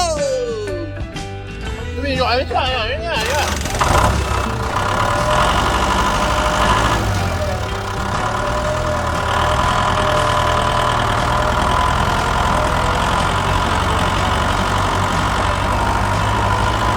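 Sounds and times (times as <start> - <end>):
engine idling: 3.2 - 16.9.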